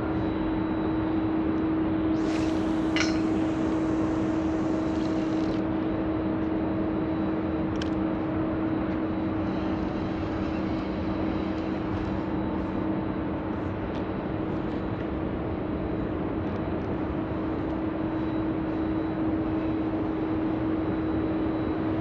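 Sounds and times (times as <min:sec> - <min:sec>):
mechanical drone with low hum: 0:00.0 - 0:22.0.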